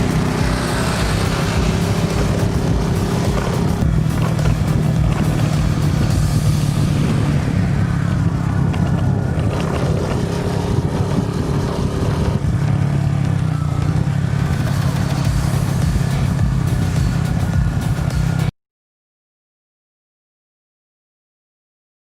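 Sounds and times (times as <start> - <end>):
motorcycle engine running: 0.0 - 18.5.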